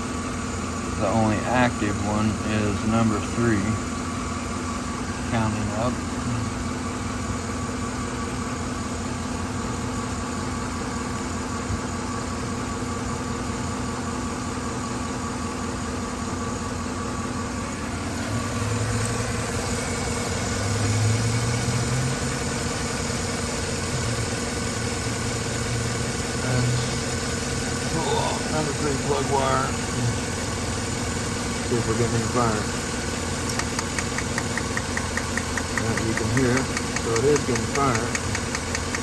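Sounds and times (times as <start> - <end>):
engine idling with misfire: 0.0 - 39.0.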